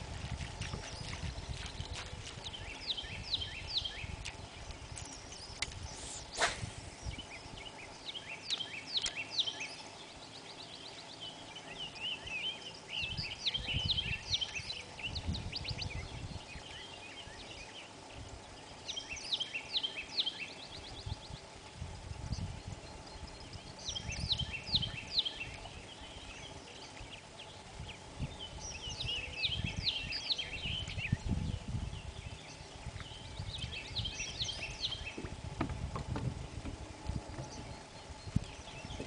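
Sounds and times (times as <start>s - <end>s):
birds chirping and trilling: 0.0s - 39.0s
low uneven rumble: 0.0s - 39.0s.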